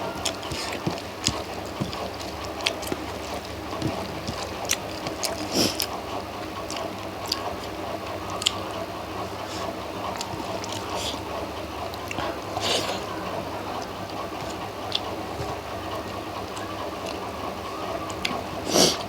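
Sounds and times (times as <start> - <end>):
person chewing and lip smacking: 0.0 - 19.0
steady low hum: 0.0 - 19.0
wet squishing: 0.0 - 19.0.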